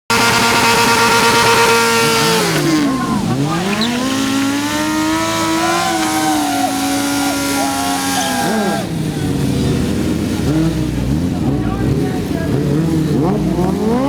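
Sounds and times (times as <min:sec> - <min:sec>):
motorcycle engine revving high: 0:00.1 - 0:14.0.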